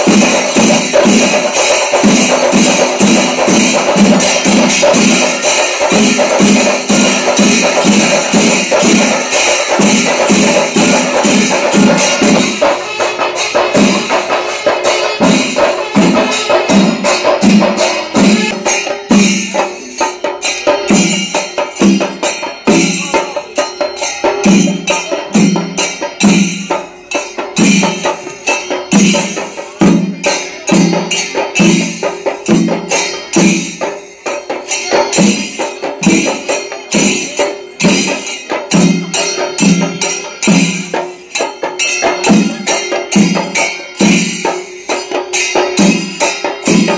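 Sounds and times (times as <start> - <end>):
fast drumming: 0.0 - 46.9
jingling metal percussion: 0.0 - 46.9.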